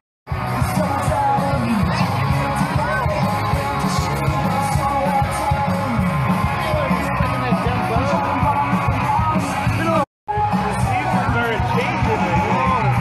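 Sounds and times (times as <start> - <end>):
live rock band playing: 0.3 - 13.0
person singing: 0.4 - 13.0.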